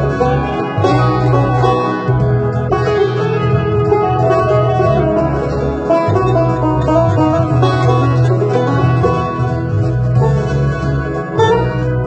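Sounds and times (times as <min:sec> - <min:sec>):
banjo picking: 0:00.0 - 0:12.0
low bass: 0:00.0 - 0:12.0.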